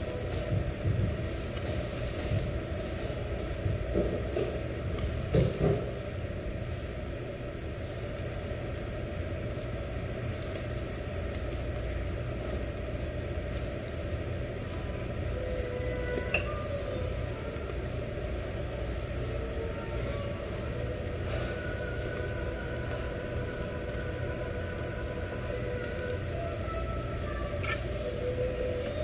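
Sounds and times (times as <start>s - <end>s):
extraction fan rumble: 0.0s - 29.0s.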